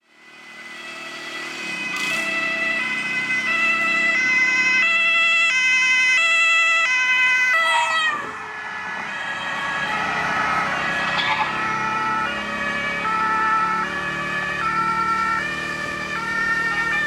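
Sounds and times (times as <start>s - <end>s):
police car two-tone siren: 0.1s - 17.0s.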